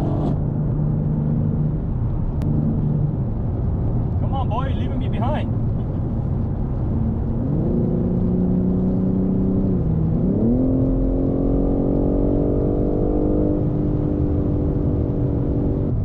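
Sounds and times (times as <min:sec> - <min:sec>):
car engine accelerating: 0:00.0 - 0:04.2, 0:05.4 - 0:16.0
tyre and road noise: 0:00.0 - 0:16.0.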